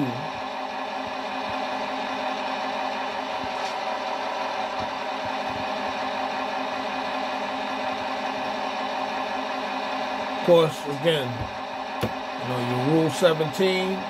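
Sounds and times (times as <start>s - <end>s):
model locomotive diesel engine sound: 0.0s - 14.0s.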